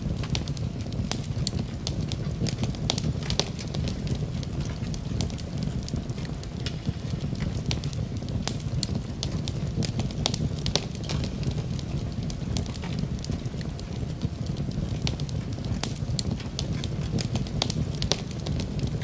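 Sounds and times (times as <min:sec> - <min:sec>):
soft rain hiss: 0:00.0 - 0:19.0
wood fire crackling: 0:00.0 - 0:19.0.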